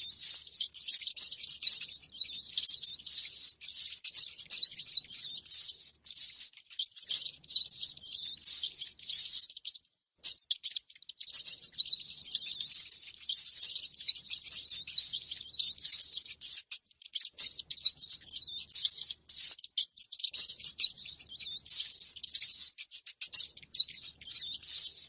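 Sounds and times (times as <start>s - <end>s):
rats squeaking: 0.0s - 25.0s.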